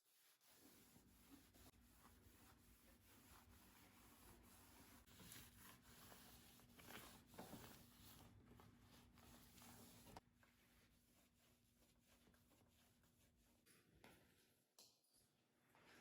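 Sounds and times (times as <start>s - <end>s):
faint rustles and scrapes: 0.4s - 14.6s.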